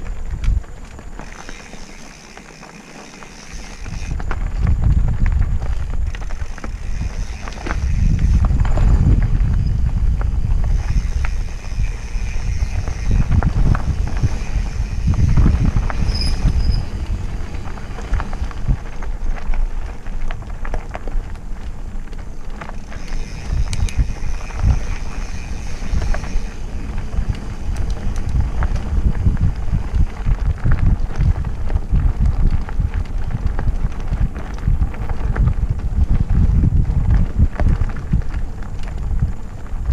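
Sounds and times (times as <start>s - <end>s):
bike chain and frame clattering: 0.0s - 39.9s
bike tyres rumbling on dirt: 0.0s - 39.9s
wind buffeting microphone: 0.0s - 39.9s.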